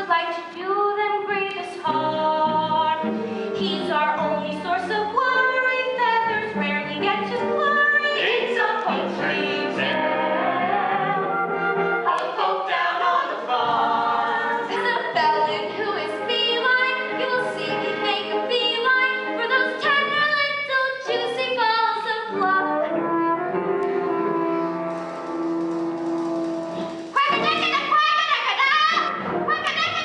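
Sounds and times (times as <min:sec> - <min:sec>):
musical theatre singing: 0:00.0 - 0:30.0
musical accompaniment: 0:00.3 - 0:30.0.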